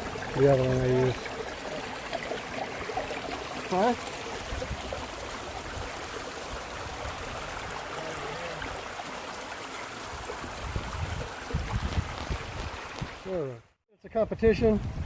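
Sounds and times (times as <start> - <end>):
river water flowing over rocks: 0.0 - 13.4.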